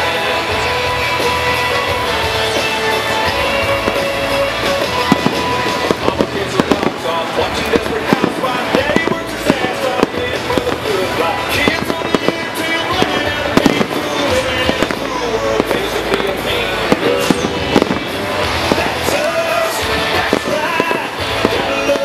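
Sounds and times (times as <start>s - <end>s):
fireworks bursting with crackles: 0.0s - 22.0s
music: 0.0s - 22.0s.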